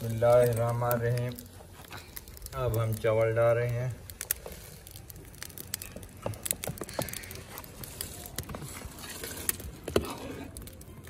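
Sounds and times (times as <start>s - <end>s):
boiling pot hissing: 0.0s - 11.0s.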